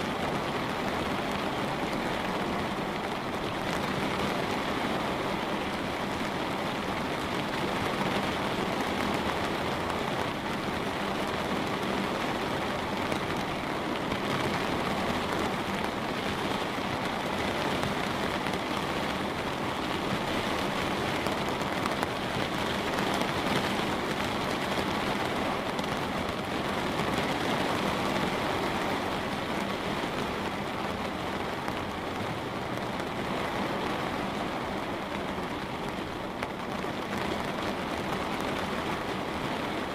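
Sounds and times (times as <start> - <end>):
light rain on a window: 0.0 - 39.9.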